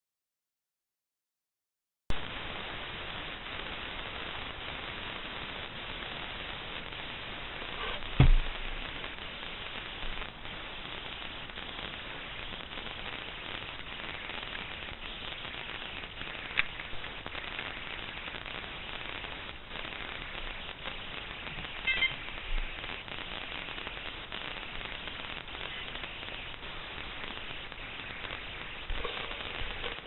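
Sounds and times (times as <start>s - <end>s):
static hiss: 2.1s - 30.0s.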